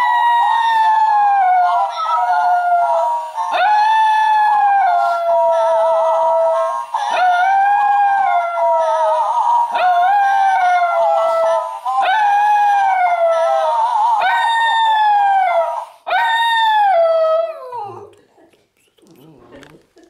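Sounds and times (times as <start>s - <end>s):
dog howling: 0.0s - 18.1s.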